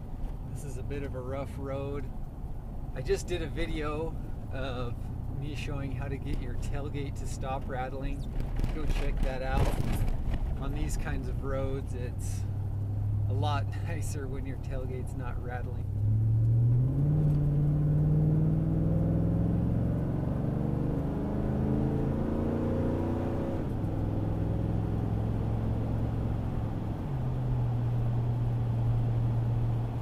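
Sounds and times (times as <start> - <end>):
truck engine exhaust accelerating: 0.0 - 30.0.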